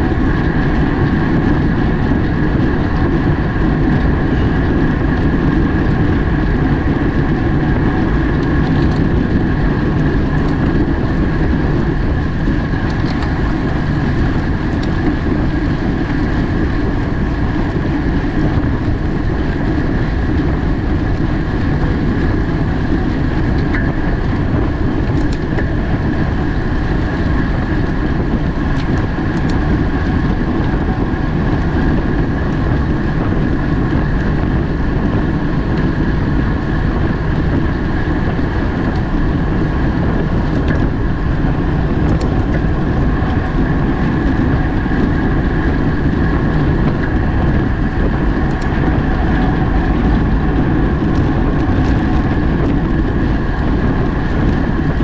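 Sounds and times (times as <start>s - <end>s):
bicycle tyre and drivetrain hum: 0.0s - 55.0s
wind rushing over microphone: 0.0s - 55.0s.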